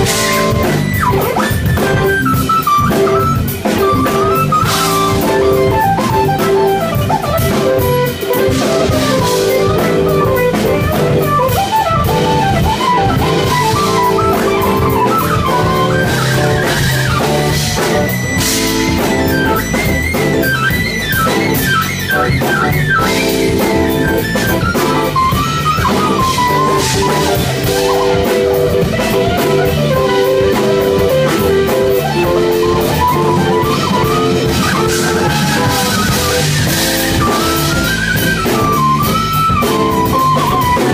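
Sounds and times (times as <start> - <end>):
steady drum beat: 0.0 - 40.9
synthesizer chords and melody: 0.0 - 40.9.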